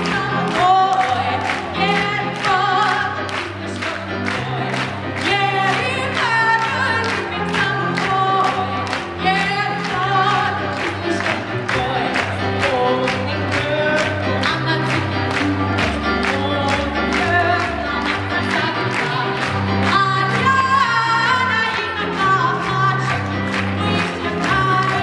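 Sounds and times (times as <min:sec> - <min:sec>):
backing music with steady beat: 0:00.0 - 0:25.0
woman singing into microphone: 0:00.0 - 0:25.0.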